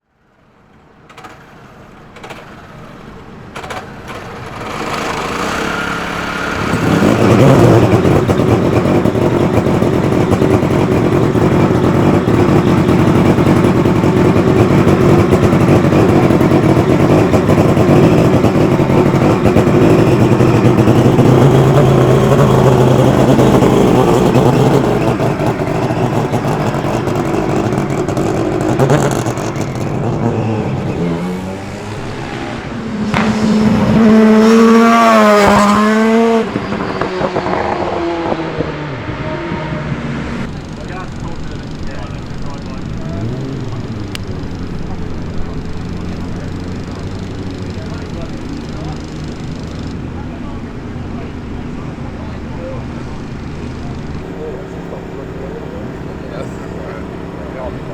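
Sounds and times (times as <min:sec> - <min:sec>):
motorcycle engine droning: 0:00.0 - 0:57.9.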